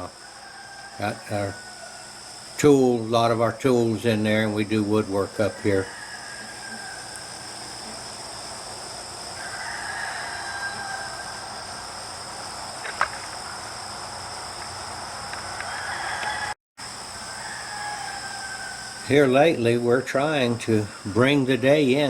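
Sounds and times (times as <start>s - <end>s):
distant roosters crowing: 0.0s - 22.0s.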